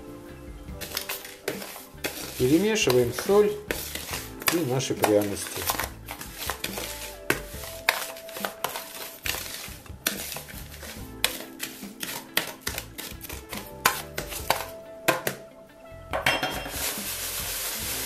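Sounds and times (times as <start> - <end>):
metal spoon stirring salt in bowl: 0.8 - 14.7, 16.4 - 18.0.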